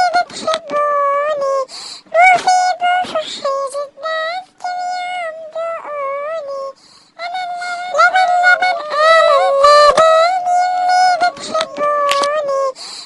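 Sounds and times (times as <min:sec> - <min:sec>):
toy singing in electronic voice: 0:00.0 - 0:12.8.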